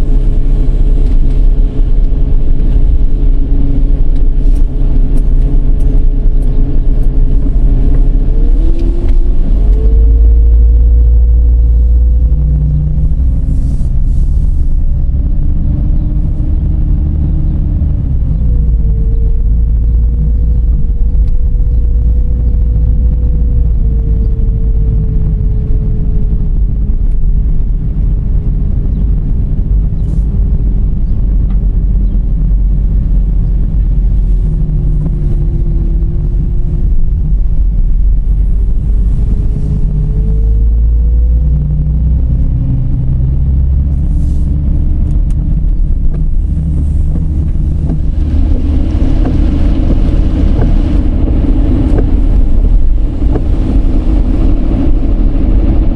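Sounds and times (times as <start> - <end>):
car road and wind noise: 0.0 - 55.9
car whine: 0.0 - 55.9.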